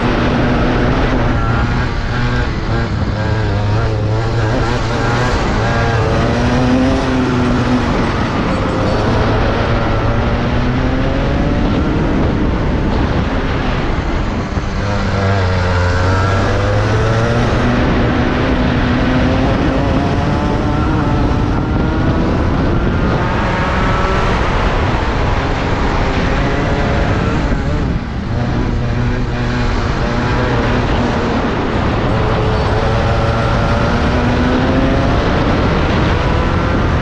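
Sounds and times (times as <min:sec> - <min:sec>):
kart engine revving: 0:00.0 - 0:37.0.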